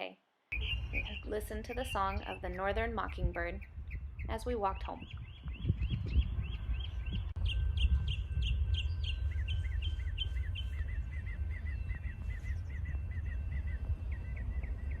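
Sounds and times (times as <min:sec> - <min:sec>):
mockingbird singing: 0:00.5 - 0:15.0
steady low rumble: 0:00.5 - 0:15.0.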